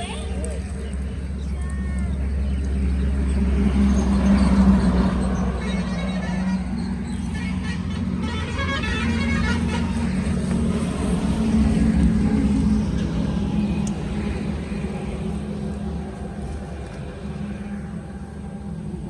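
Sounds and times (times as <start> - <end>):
motor vehicle passing: 0.0 - 19.0.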